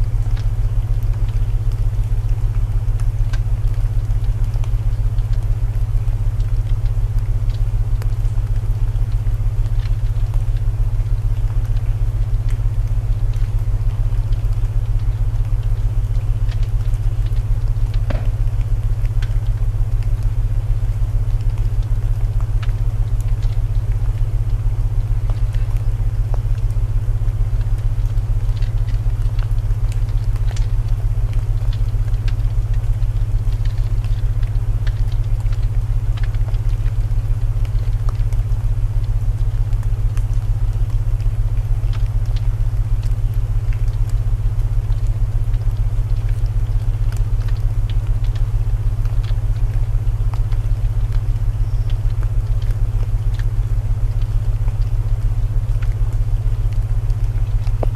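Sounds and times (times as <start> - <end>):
crackle of burning wood: 0.0 - 57.9
low binaural tone hum: 0.0 - 57.9
rain hiss: 0.0 - 57.9.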